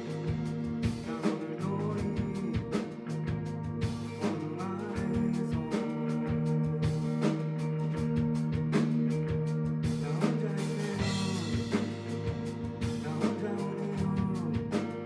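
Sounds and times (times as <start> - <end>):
drum kit beat: 0.0 - 15.0
live rock band playing: 0.0 - 15.0.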